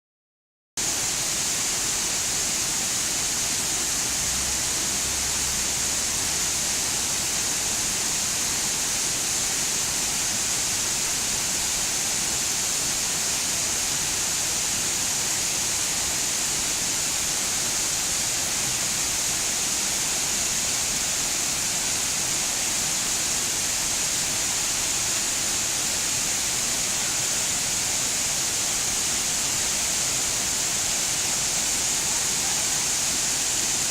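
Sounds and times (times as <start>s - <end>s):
waterfall rushing: 0.8s - 33.9s.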